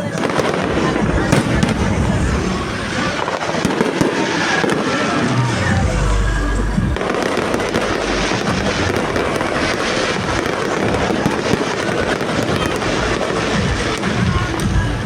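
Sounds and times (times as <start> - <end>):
fireworks popping and crackling: 0.0 - 15.0
deep firework boom: 0.2 - 15.0.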